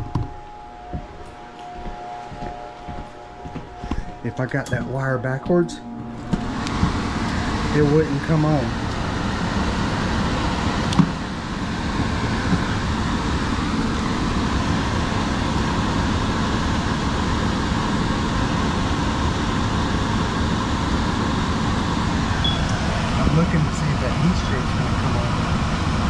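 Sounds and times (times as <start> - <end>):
blower motor running: 0.0 - 26.0.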